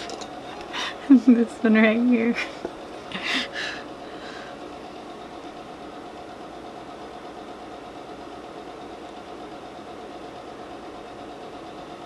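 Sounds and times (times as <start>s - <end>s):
faint constant whine: 0.0s - 12.0s
steady mechanical hum: 0.0s - 12.0s.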